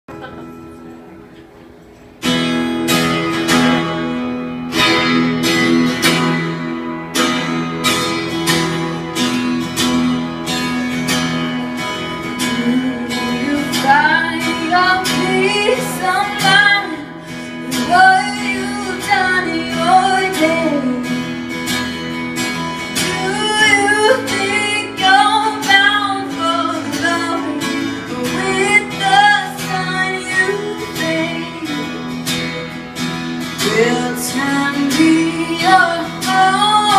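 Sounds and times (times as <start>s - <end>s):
strummed acoustic guitar: 0.1s - 36.9s.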